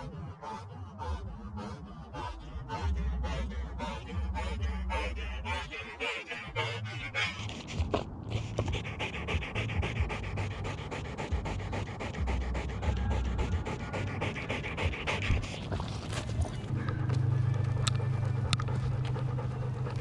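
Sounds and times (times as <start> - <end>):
dog panting: 0.0 - 20.0
steady low rumble: 0.0 - 20.0.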